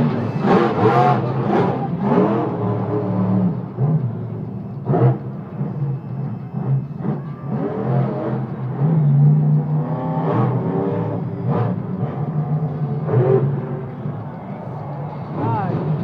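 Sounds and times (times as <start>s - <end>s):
monster truck engines revving: 0.0s - 16.0s.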